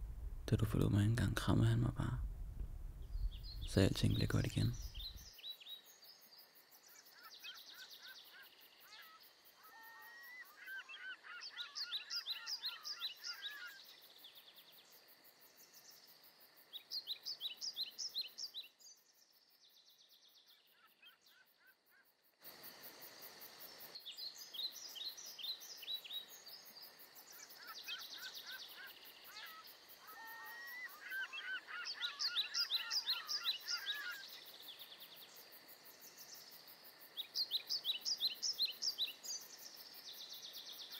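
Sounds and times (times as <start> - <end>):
faint outdoor hiss: 0.0 - 40.9
songbirds chirping and trilling: 2.9 - 40.9.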